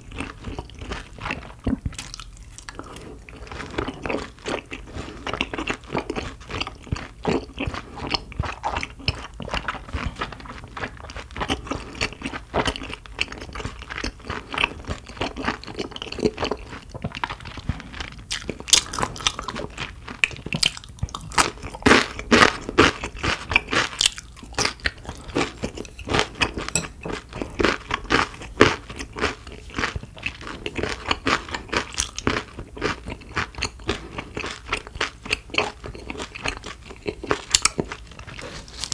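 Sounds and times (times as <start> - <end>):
person chewing crisp food: 0.0 - 38.9.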